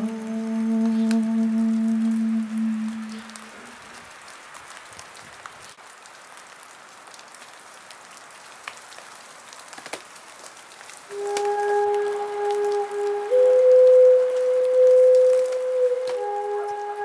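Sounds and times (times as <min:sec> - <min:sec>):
wet snow pattering: 0:00.0 - 0:17.0.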